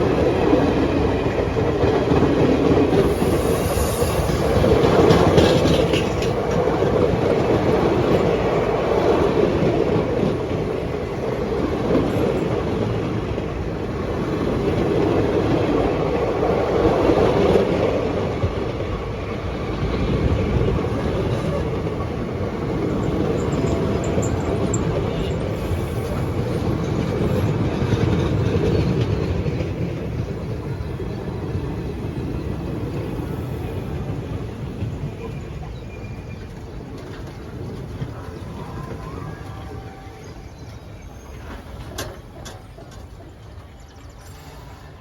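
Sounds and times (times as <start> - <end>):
train wheels on rails: 0.0 - 45.0.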